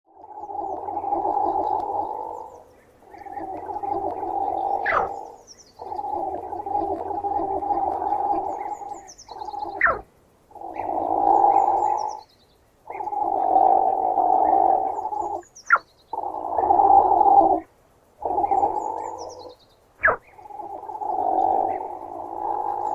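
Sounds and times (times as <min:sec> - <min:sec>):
platypus growling: 0:00.6 - 0:12.2, 0:12.9 - 0:15.4, 0:16.1 - 0:22.9.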